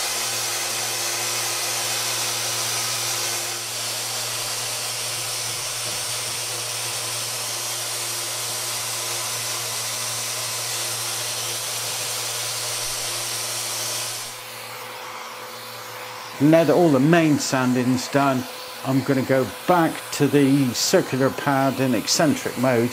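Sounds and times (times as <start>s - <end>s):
sander sanding wood: 0.0s - 22.9s.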